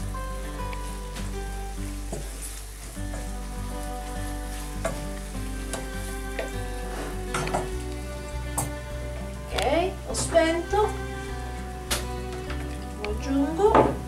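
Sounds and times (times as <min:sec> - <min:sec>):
quiet background music: 0:00.0 - 0:14.0
spinach sizzling in a frying pan: 0:00.0 - 0:14.0
wooden spoon scraping a pan: 0:00.0 - 0:14.0.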